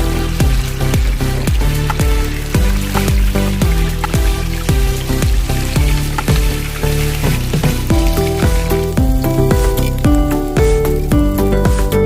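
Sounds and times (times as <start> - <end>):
deep bass drum beat: 0.0 - 12.0
sustained synth notes: 0.0 - 12.0.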